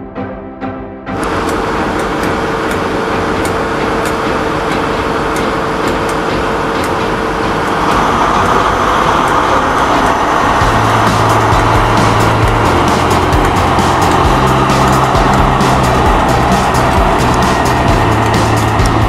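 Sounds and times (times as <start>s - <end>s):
diesel engine humming with whine: 1.1s - 19.0s
high-pitched rushing: 1.2s - 19.0s.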